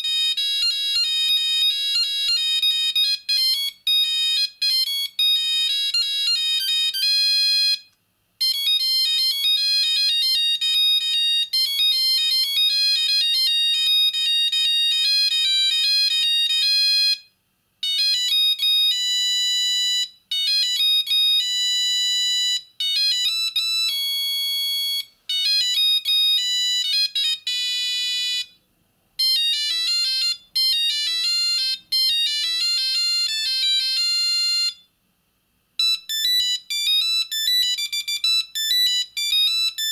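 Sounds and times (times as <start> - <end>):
mobile phone ringtones beeping: 0.0 - 28.6, 29.2 - 34.9, 35.8 - 39.9.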